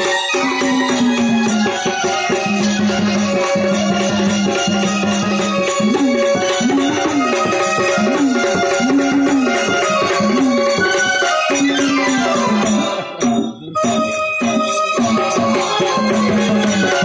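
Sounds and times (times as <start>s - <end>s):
jingling percussion: 0.0s - 17.0s
rhythmic drumming: 0.0s - 17.0s.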